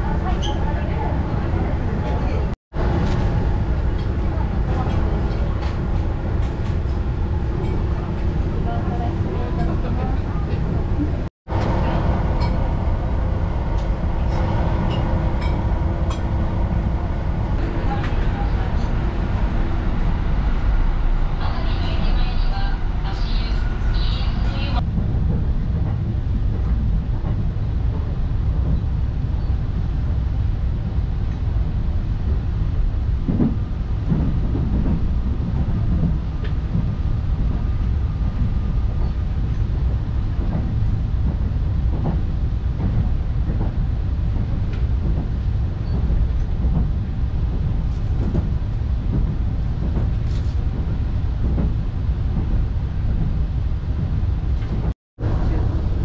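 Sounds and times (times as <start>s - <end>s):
train rumbling from inside: 0.0s - 56.0s.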